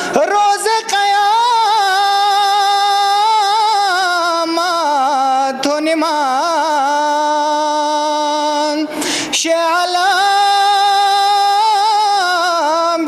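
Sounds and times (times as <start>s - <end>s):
person singing unaccompanied: 0.1s - 13.0s.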